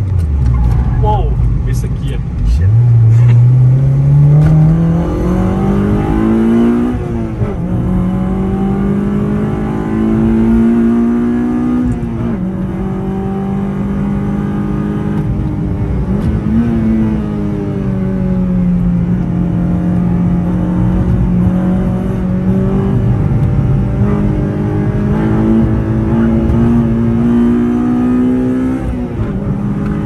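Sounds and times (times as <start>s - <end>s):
car engine under full throttle: 0.0s - 30.0s
road and wind noise: 0.0s - 30.0s.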